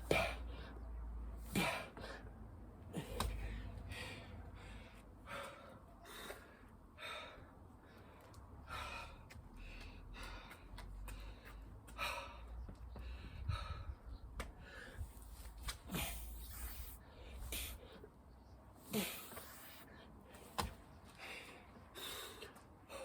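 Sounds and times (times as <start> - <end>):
man breathing hard: 1.4 - 18.2, 21.1 - 23.0.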